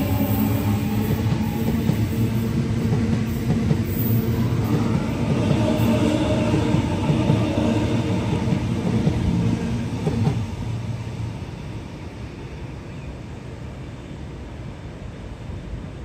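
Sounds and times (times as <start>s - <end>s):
passing train rumble: 0.0s - 16.0s
steady background noise: 0.0s - 16.0s.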